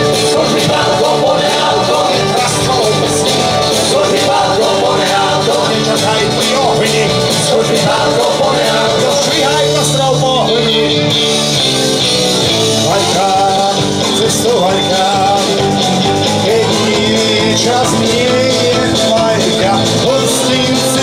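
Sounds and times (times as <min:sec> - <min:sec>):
man singing: 0:00.0 - 0:11.2, 0:12.7 - 0:21.0
acoustic guitar: 0:00.0 - 0:21.0
bass guitar: 0:00.0 - 0:21.0
drum kit: 0:00.0 - 0:21.0.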